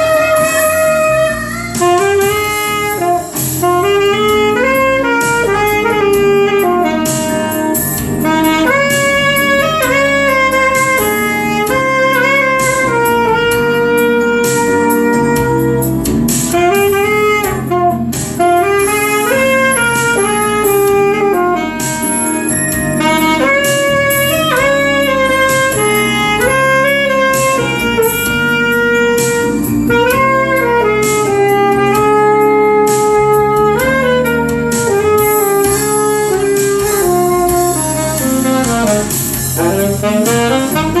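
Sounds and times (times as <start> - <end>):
saxophone solo melody: 0.0 - 41.0.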